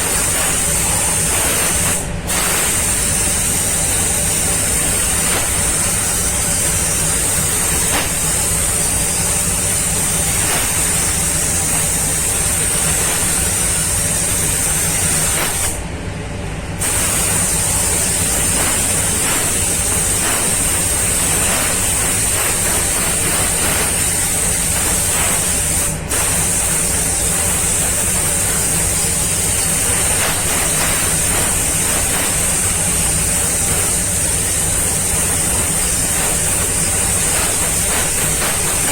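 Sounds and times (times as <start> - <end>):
paint spray gun hissing: 0.0 - 15.8, 16.8 - 38.9.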